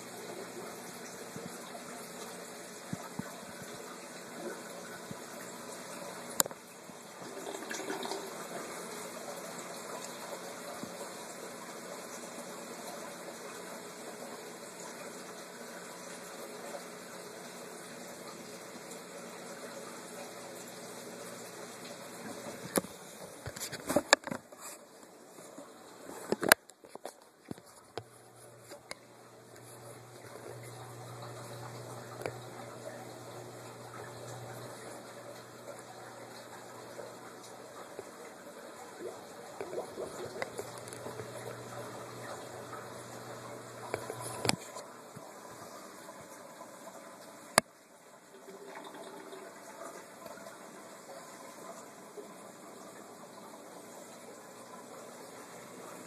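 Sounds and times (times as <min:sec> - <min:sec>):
water running: 0:00.0 - 0:56.0.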